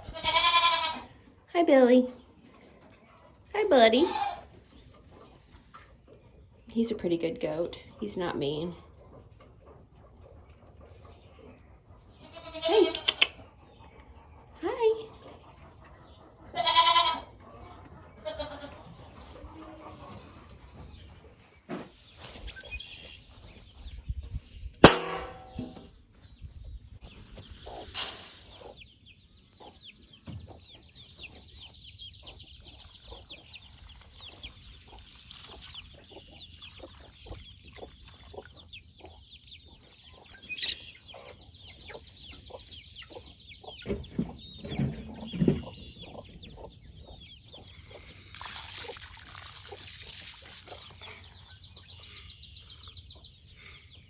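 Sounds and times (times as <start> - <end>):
chickens clucking: 2.2 - 54.0.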